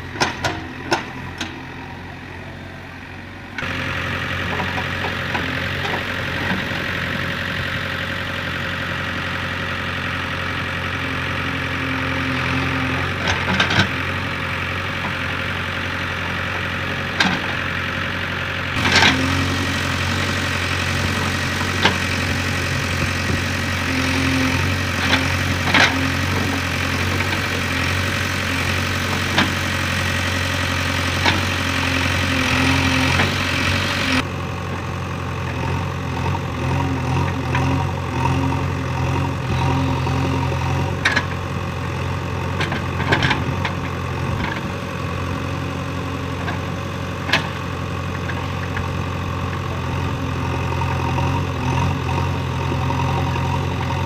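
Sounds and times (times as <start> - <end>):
backhoe digging soil: 0.0 - 2.8, 3.4 - 54.0
diesel engine running: 0.0 - 54.0.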